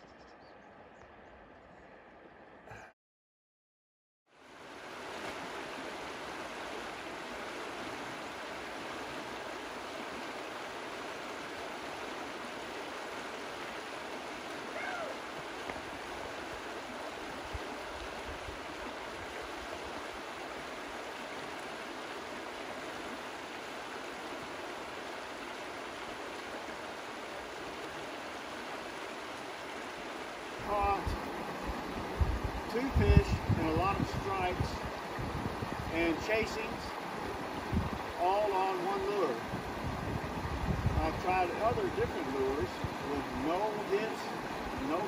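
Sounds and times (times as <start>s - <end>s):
river rushing over rocks: 4.4s - 45.0s.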